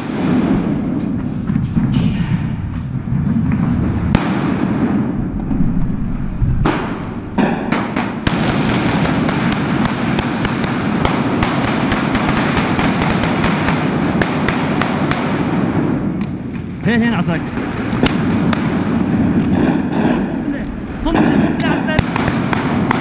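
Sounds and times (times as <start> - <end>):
rifle gunfire in concrete hall: 0.0 - 2.0, 3.0 - 23.0.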